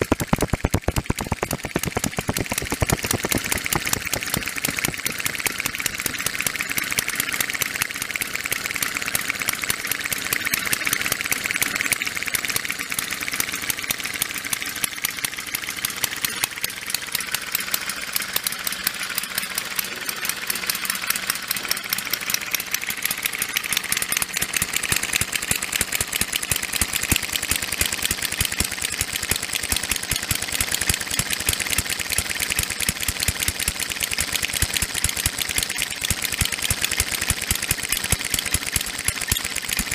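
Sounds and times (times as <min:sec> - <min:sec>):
model engine clattering: 0:00.0 - 0:39.9.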